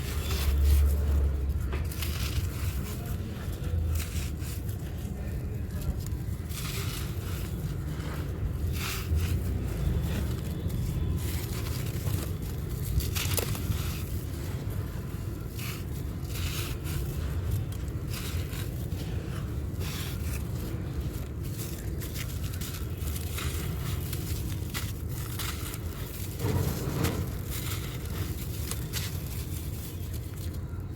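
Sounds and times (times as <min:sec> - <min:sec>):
dry block crunching: 0:00.0 - 0:30.9.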